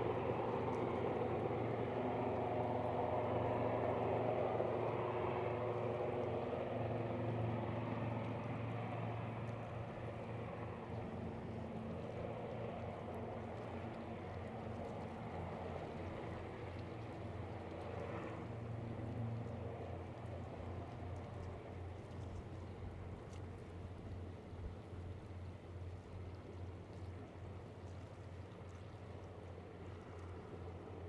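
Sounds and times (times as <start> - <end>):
floatplane engine droning: 0.0 - 31.0.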